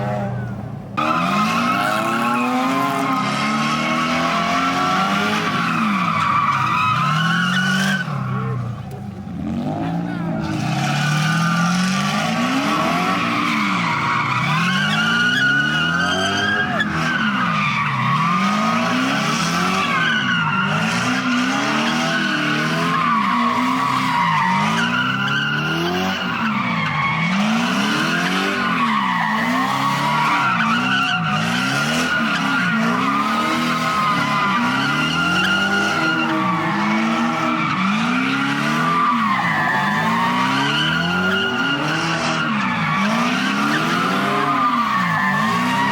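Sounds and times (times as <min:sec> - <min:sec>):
car engine revving: 0:00.0 - 0:45.9
tyres squealing: 0:01.0 - 0:45.9.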